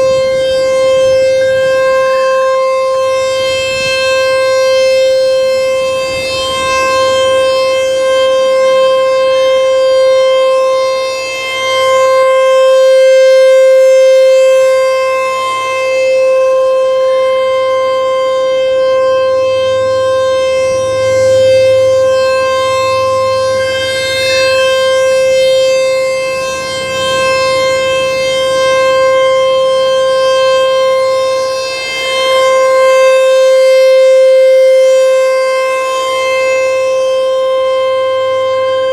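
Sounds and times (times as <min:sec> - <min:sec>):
rotating warning siren steady tone: 0:00.0 - 0:38.9.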